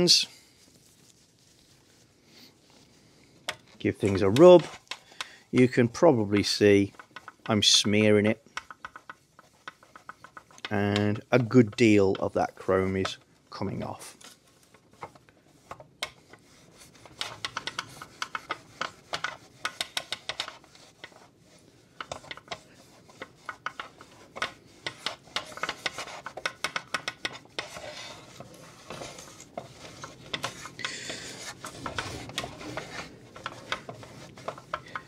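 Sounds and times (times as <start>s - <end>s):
towel rubbing on plastic: 0.0s - 4.9s, 5.5s - 35.0s.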